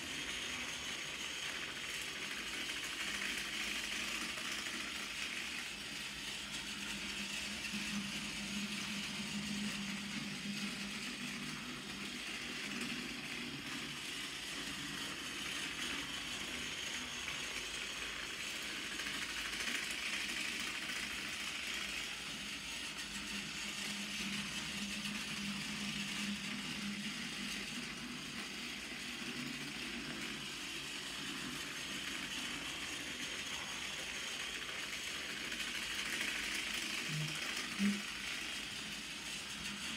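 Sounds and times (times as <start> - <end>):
toy train motor whirring: 0.0 - 39.9
toy train wheels rattling on track: 0.0 - 39.9.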